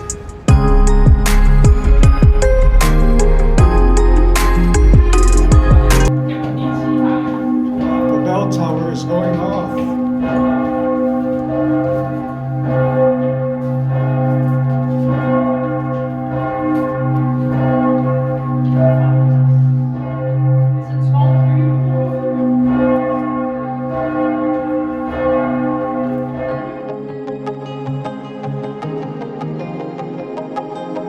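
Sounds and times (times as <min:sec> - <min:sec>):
church bells pealing: 0:00.0 - 0:31.0.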